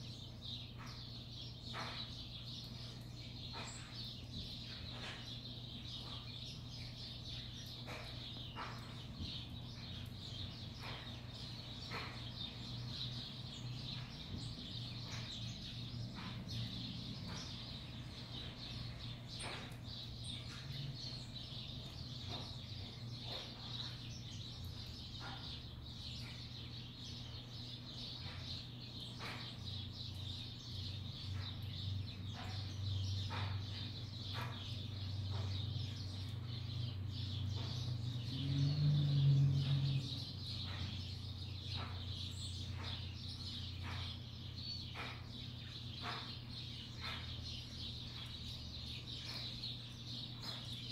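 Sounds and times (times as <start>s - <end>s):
sparrows chirping: 0.0s - 50.9s.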